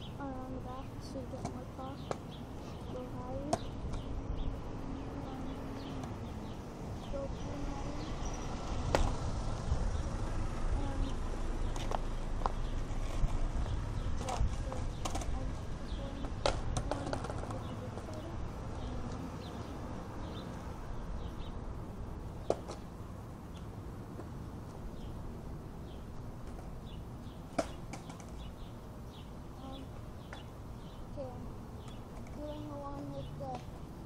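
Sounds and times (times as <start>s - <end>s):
small birds chirping faintly: 0.0s - 9.1s, 9.9s - 34.0s.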